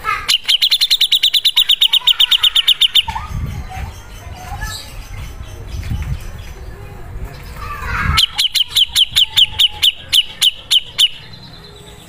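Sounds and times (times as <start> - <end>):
soft bird calls: 0.0 - 12.0
bird singing fast trill: 0.2 - 6.6, 8.1 - 12.0.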